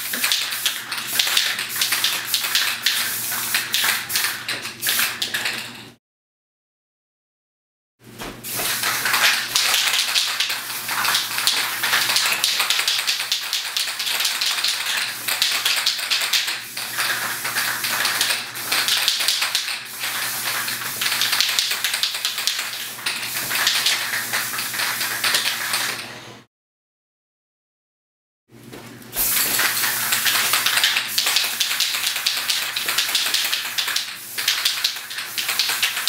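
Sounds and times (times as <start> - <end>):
spray paint can hissing: 0.0 - 5.4, 8.5 - 26.0, 29.2 - 36.0.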